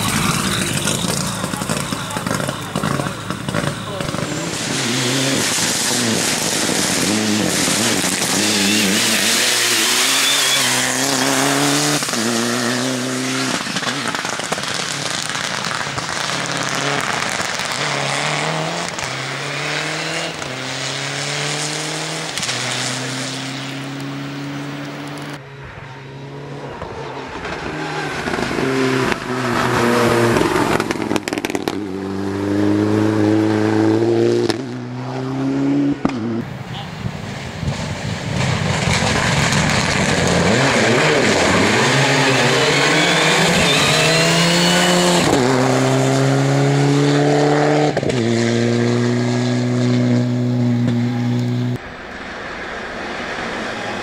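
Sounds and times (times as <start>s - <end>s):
car engine accelerating through gears: 0.0s - 25.4s, 26.0s - 36.4s, 38.7s - 51.8s
road and tyre noise: 0.0s - 54.0s.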